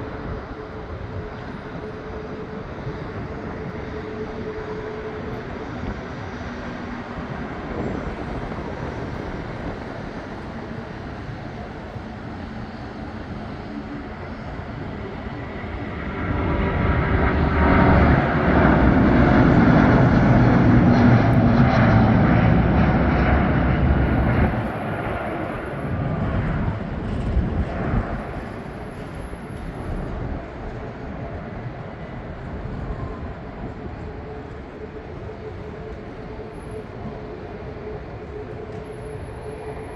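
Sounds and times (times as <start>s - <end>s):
jet airliner roar: 0.0s - 39.9s.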